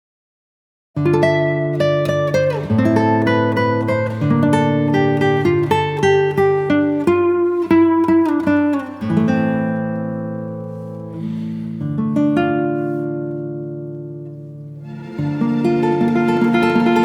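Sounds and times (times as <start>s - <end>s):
acoustic guitar melody: 1.0s - 17.0s.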